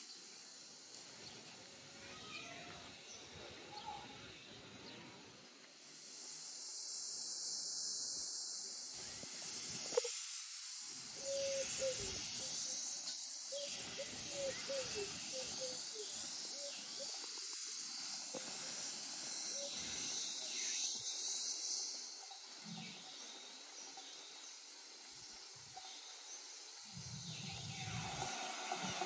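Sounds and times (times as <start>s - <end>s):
steam hissing: 0.0s - 29.0s.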